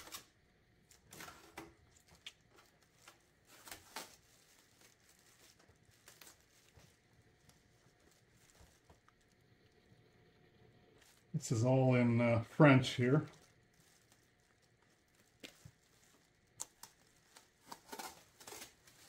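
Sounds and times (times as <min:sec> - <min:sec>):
tape peeling and crinkling: 0:00.0 - 0:09.9, 0:12.9 - 0:19.0.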